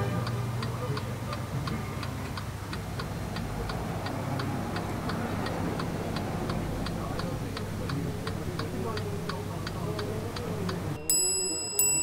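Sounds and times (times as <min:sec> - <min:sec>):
wall clock ticking: 0:00.0 - 0:11.0.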